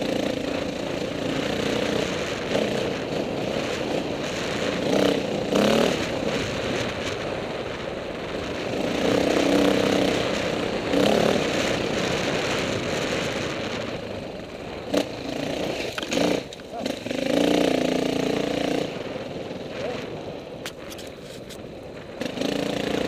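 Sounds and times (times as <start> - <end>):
dirt bike engine revving: 0.0 - 20.3, 22.2 - 23.0.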